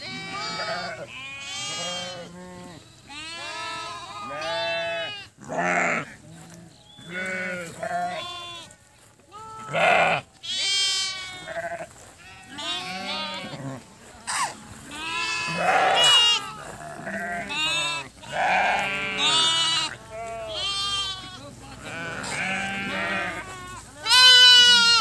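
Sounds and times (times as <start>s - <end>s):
sheep and lambs bleating: 0.0s - 25.0s.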